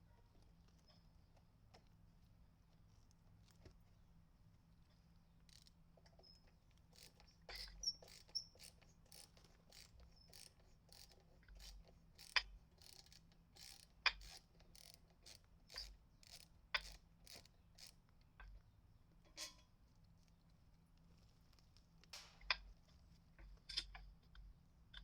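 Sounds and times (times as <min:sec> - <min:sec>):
small clicks and scrapes on metal: 0:00.4 - 0:02.0, 0:04.8 - 0:25.0.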